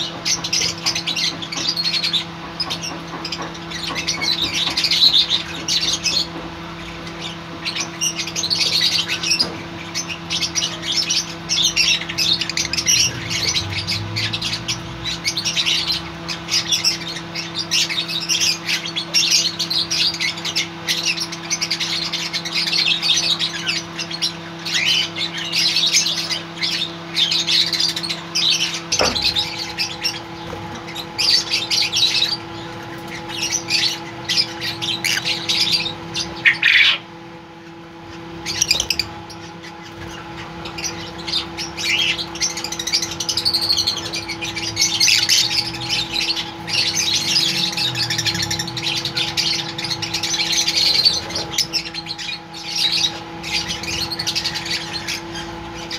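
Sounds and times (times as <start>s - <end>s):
lovebirds chirping and squawking: 0.0s - 55.9s
steady low hum: 0.0s - 55.9s.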